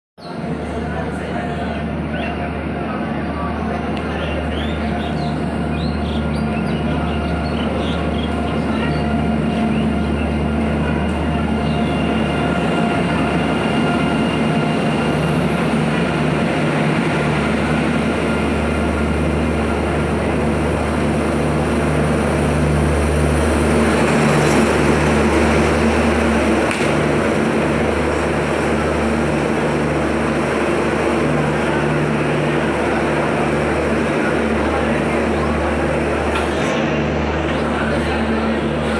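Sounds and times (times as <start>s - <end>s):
train coaches rumbling past: 0.3s - 38.9s.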